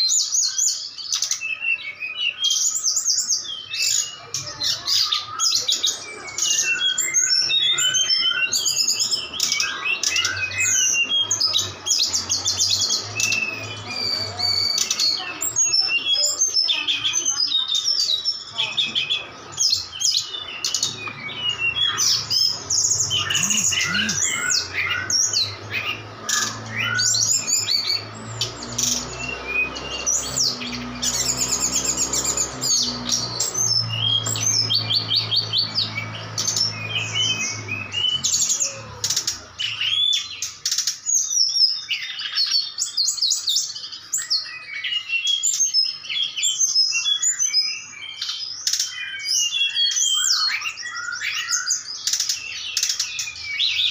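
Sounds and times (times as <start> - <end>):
birds chirping and whistling: 0.0 - 53.9.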